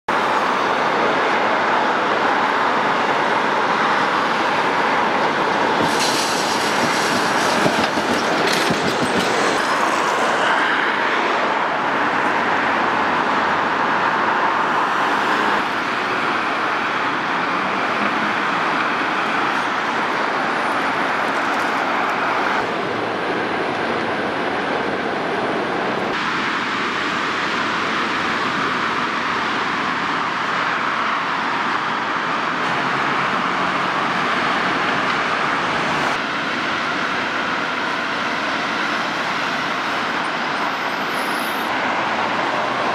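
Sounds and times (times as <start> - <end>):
road traffic: 0.0 - 42.9
high-pitched wheel-on-rail noise: 0.1 - 42.9
trams running on track: 0.1 - 42.9.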